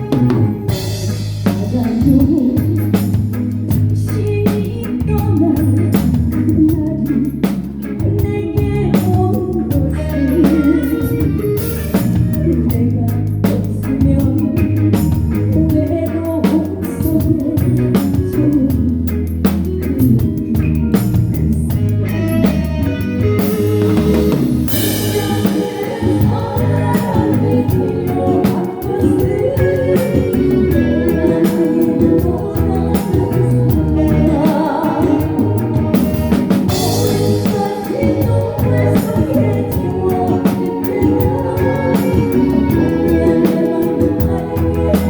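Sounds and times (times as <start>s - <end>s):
person singing: 0.0s - 19.2s, 19.8s - 45.0s
live band playing: 0.0s - 45.0s.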